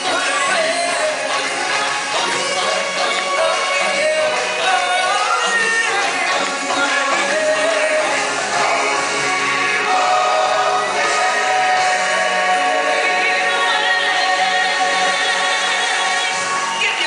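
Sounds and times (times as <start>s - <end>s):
choir singing stage music: 0.0s - 17.0s.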